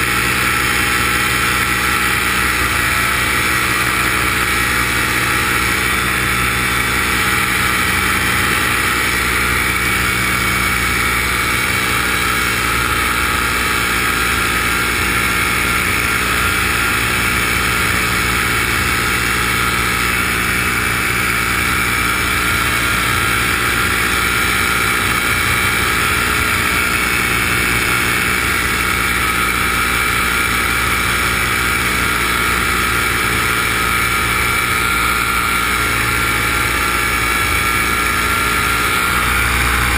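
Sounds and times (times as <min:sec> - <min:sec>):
small aircraft engine and propeller: 0:00.0 - 0:39.9.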